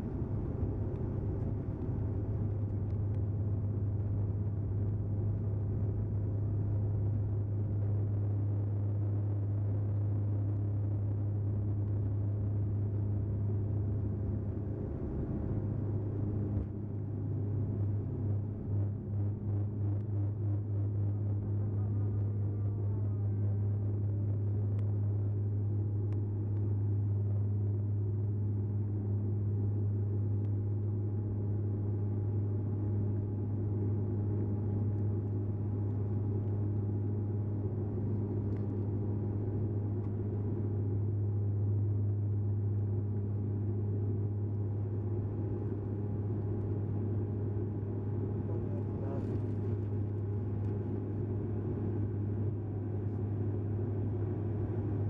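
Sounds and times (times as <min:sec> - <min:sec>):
airplane engine drone in cabin: 0:00.0 - 0:55.0.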